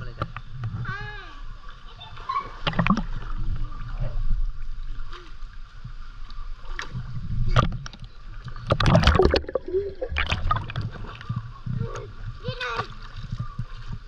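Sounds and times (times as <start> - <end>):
pool water splashing and gurgling: 1.0 - 14.0.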